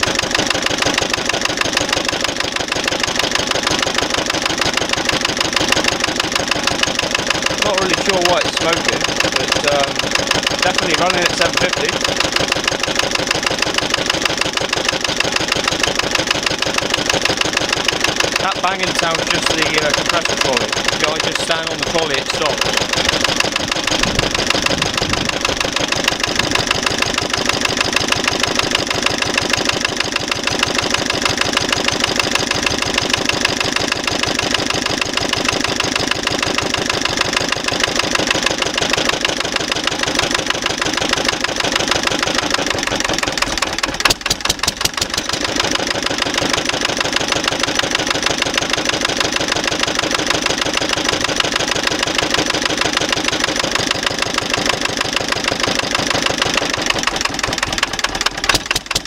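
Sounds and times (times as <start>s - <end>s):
compressor pulley banging: 0.0s - 59.0s
diesel engine running slowly: 0.0s - 59.0s
sharp clicks: 0.0s - 59.0s.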